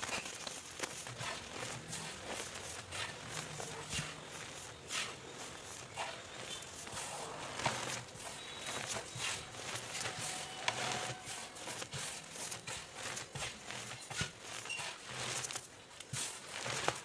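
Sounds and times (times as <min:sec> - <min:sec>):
chalk crunching and crackling: 0:00.0 - 0:17.0.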